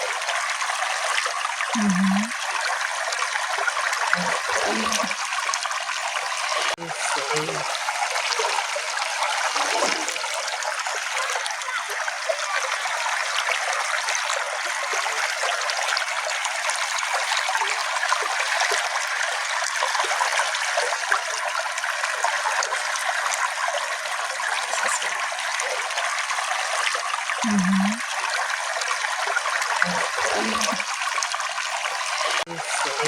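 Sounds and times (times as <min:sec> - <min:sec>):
brook babbling over stones: 0:00.0 - 0:33.0.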